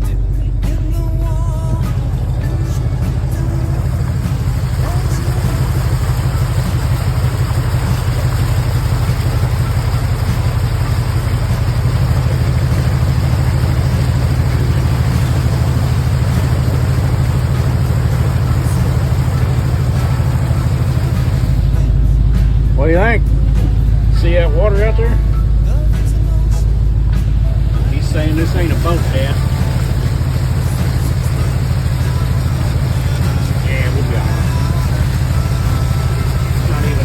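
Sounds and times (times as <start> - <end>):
pickup truck engine rumbling: 0.0 - 37.0.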